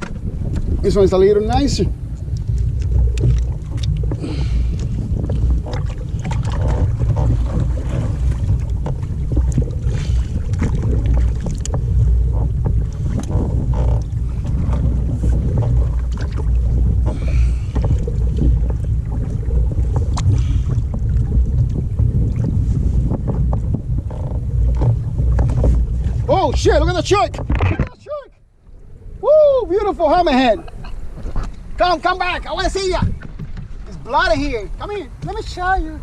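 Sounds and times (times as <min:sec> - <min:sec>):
low rumble: 0:00.0 - 0:35.2
water splashing against hull: 0:00.0 - 0:36.0
wind buffeting microphone: 0:00.0 - 0:36.0.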